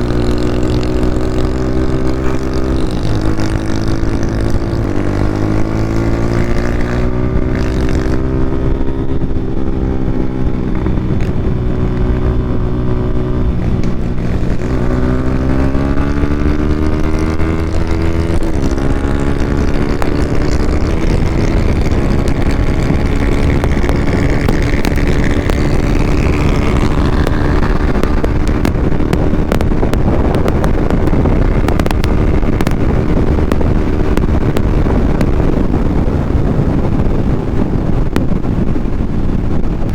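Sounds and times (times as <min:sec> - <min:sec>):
motorcycle engine revving: 0:00.0 - 0:39.9
steady noisy rush: 0:00.0 - 0:39.9.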